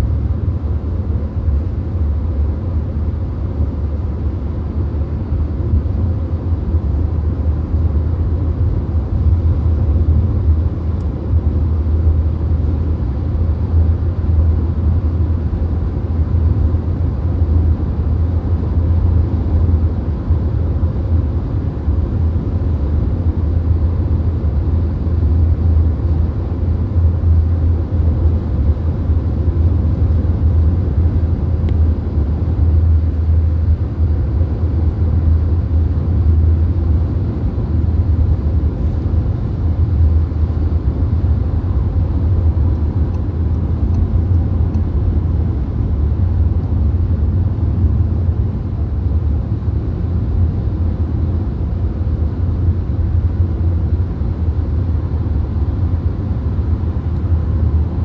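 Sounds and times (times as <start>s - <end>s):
car cabin rumble at speed: 0.0s - 58.0s.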